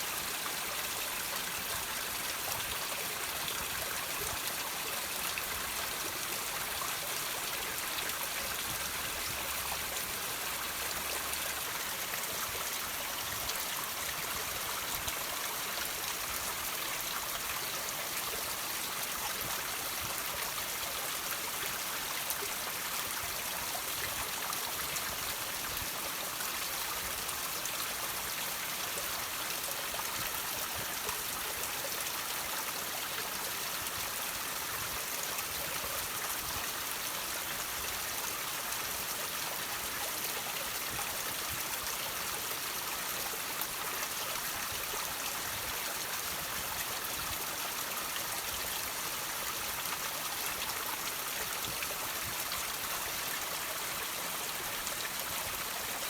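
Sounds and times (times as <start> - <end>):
water trickling over rocks: 0.0 - 56.0.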